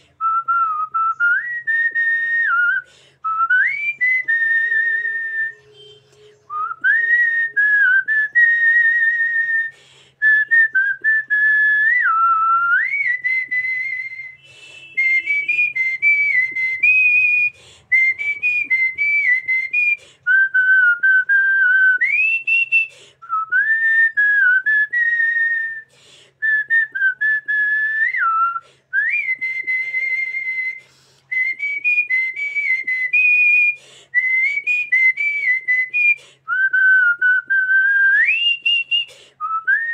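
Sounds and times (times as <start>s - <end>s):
woman whistling a melody: 0.2s - 39.9s.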